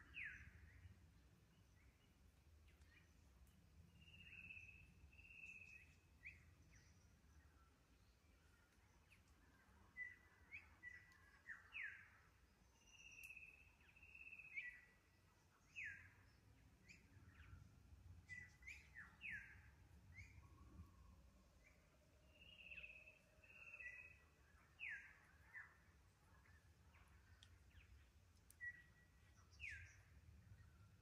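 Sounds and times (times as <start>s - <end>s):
faint birdsong whistles: 0.0s - 31.0s.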